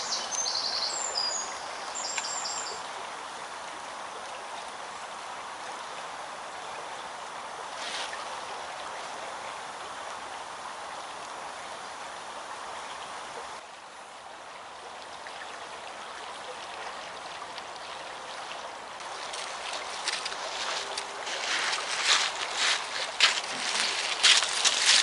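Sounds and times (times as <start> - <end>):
shallow stream flowing: 0.0 - 25.0.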